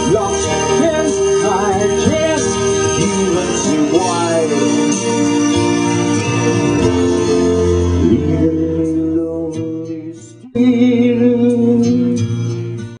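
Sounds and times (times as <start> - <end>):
sustained music chords: 0.0 - 10.4.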